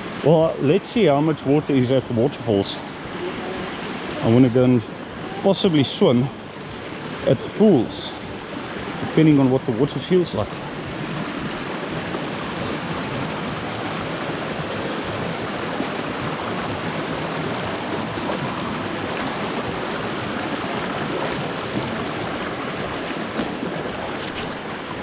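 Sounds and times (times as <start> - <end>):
mountain stream rushing: 0.0 - 25.0.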